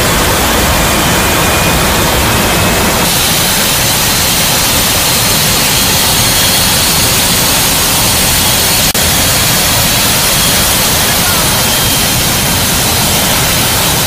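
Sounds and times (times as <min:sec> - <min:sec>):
wind and jet engine rush: 0:00.0 - 0:14.0.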